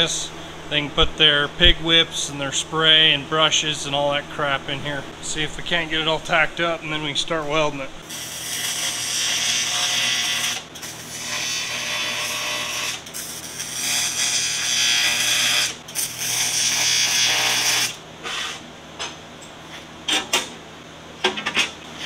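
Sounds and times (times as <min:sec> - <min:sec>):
welding arc buzzing and hissing: 0:00.0 - 0:18.7.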